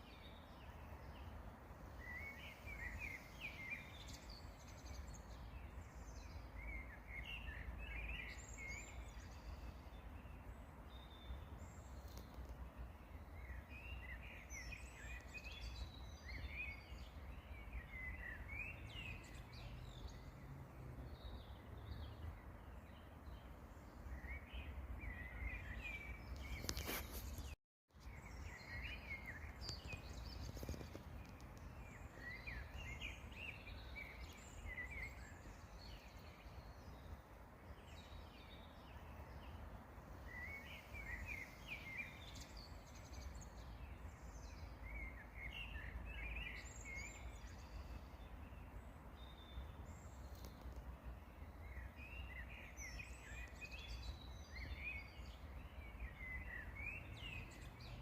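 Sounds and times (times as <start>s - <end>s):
songbirds twittering: 0.0s - 58.0s.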